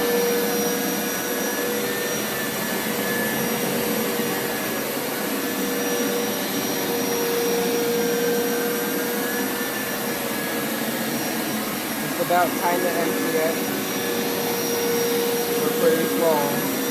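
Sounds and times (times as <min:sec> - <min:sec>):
suction motor whining: 0:00.0 - 0:16.9.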